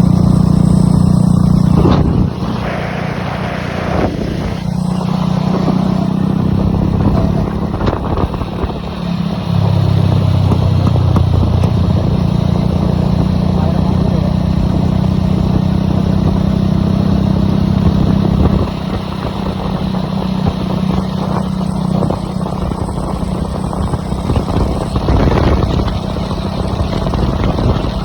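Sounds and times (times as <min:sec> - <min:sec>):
motorcycle engine rumbling: 0:00.0 - 0:28.0.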